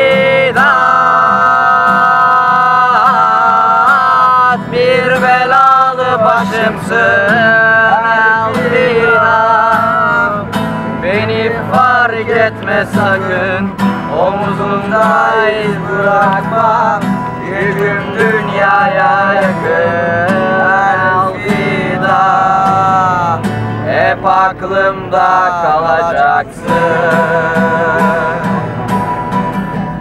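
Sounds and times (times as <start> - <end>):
man singing: 0.0 - 28.8
strummed acoustic guitar: 0.0 - 30.0.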